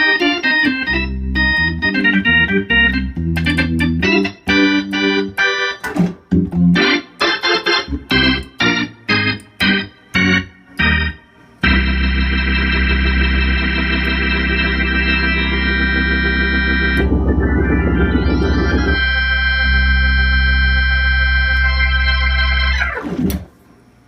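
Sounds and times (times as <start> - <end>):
fast organ note flurry: 0.0 - 23.4
organ chord: 0.0 - 23.5.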